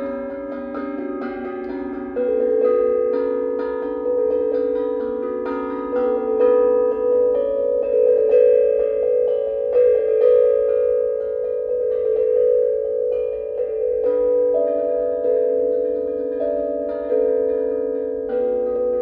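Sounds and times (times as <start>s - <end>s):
steel tongue drums ringing: 0.0s - 19.0s.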